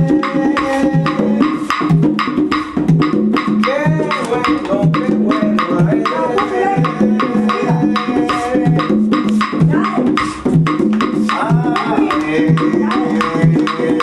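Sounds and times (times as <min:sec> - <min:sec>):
percussion-driven dance music: 0:00.0 - 0:14.0.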